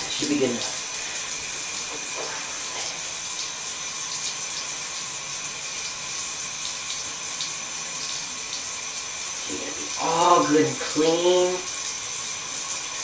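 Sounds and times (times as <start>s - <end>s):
tap running into bathtub: 0.0s - 13.0s.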